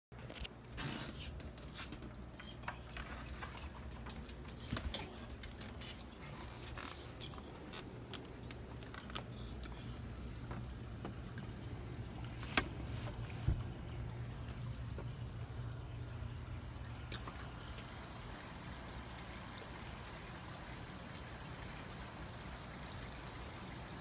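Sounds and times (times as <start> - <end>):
steady low hum: 0.2 - 21.2.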